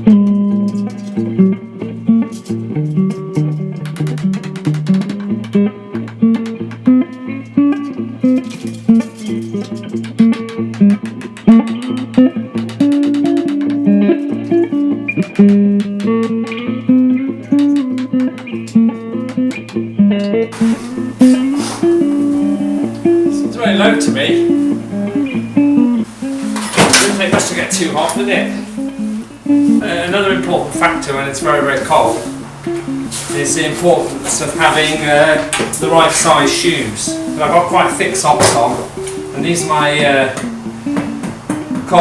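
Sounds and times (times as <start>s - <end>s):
plucked guitar notes: 0.0s - 42.0s.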